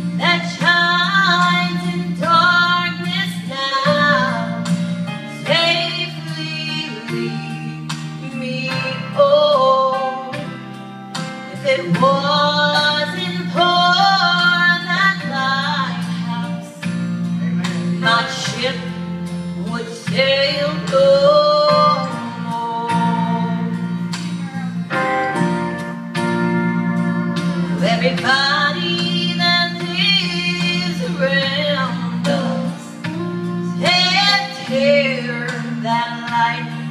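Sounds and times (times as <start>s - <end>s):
instrumental accompaniment: 0.0s - 36.9s.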